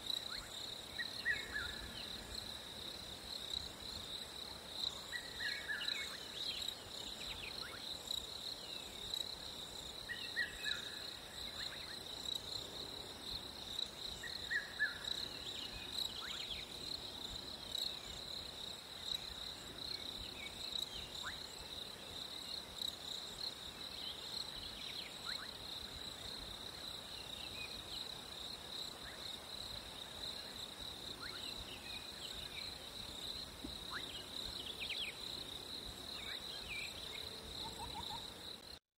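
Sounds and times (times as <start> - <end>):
crickets trilling: 0.0 - 38.8.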